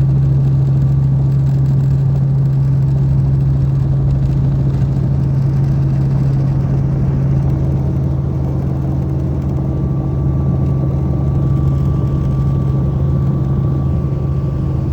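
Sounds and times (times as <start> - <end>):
helicopter engine and rotor: 0.0 - 14.9.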